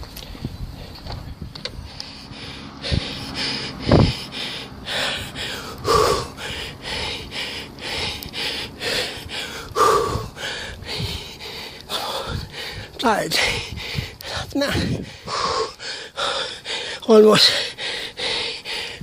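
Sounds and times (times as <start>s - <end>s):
hard rhythmic breathing: 0.0s - 19.0s.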